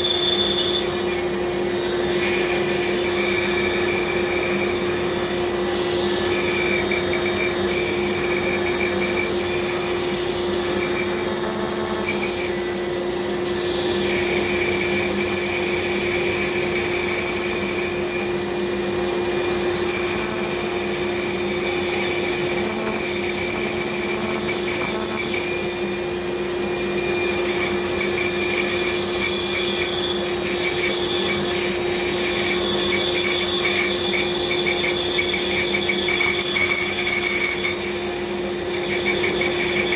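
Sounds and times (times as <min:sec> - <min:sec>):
power tool motor humming: 0:00.0 - 0:39.9
tool scratching wood: 0:00.0 - 0:39.9.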